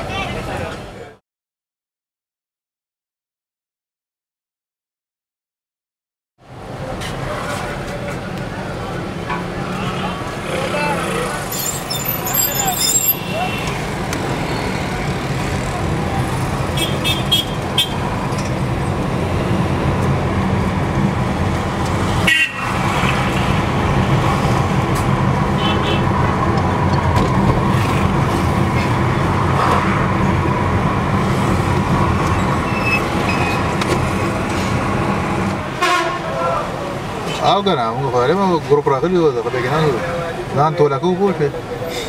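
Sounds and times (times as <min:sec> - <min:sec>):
vehicle engine and road noise: 0:06.4 - 0:42.0.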